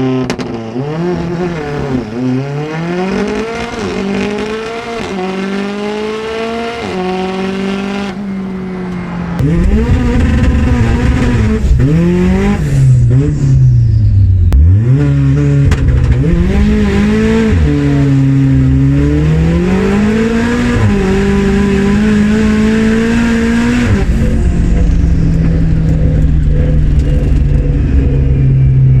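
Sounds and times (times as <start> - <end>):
turbocharged engine revving: 0.0 - 29.0.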